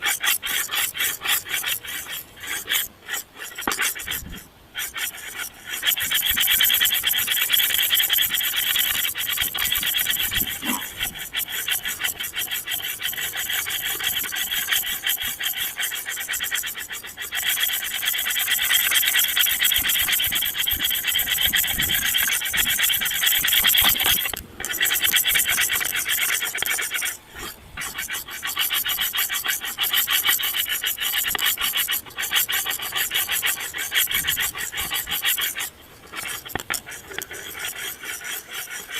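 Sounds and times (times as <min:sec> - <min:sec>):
harsh scratching rasping noise: 0:00.0 - 0:38.9.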